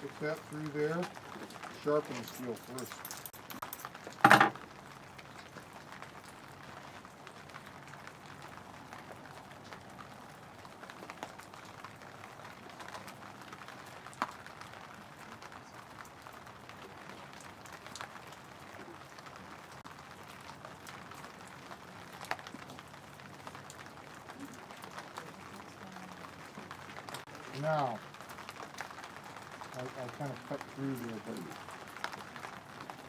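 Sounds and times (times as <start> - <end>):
light rain patter: 0.0 - 33.0.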